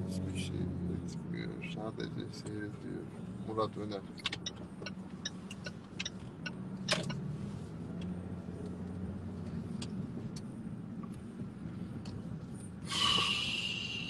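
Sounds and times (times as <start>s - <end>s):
car engine hum: 0.0s - 14.0s
road noise: 0.0s - 14.0s.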